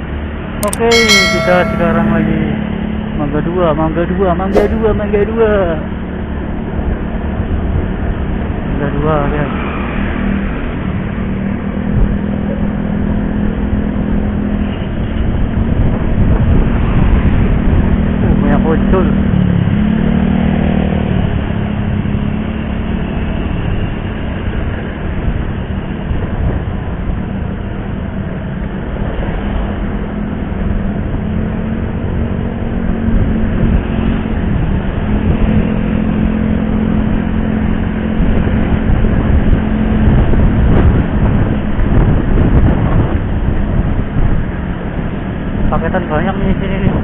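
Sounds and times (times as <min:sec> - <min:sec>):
road and traffic noise: 0:03.2 - 0:47.0.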